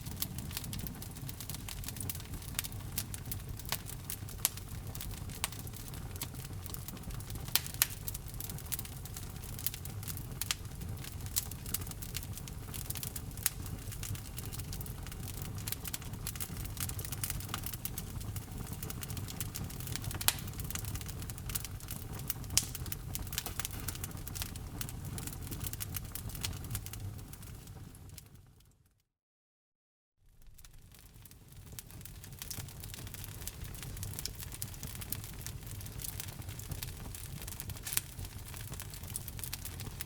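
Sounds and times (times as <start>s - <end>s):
wood fire crackling: 0.0s - 28.3s, 30.3s - 40.0s.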